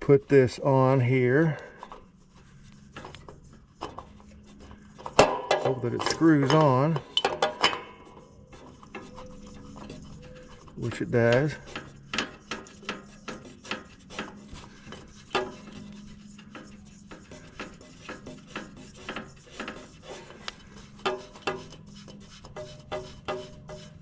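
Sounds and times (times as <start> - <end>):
oil filter scraping on threads: 0.0 - 24.0.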